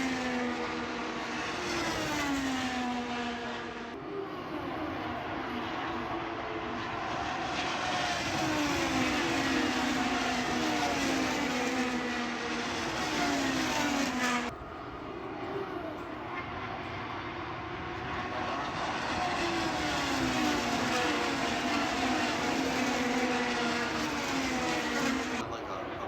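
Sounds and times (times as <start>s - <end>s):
racing cars passing by: 0.0s - 26.0s.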